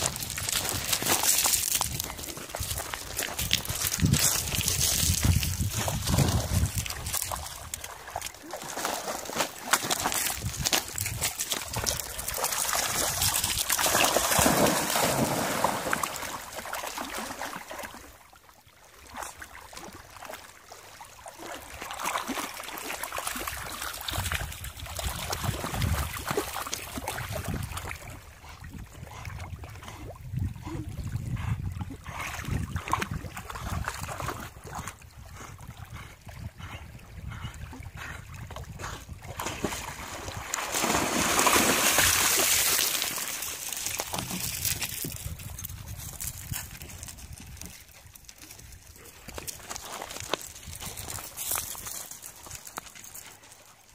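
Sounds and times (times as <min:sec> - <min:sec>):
water lapping: 0:00.0 - 0:53.8
dogs splashing through water: 0:00.0 - 0:53.9.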